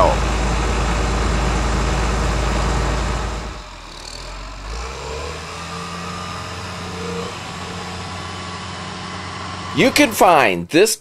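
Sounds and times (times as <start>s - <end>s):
tractor diesel engine idling: 0.0s - 10.6s.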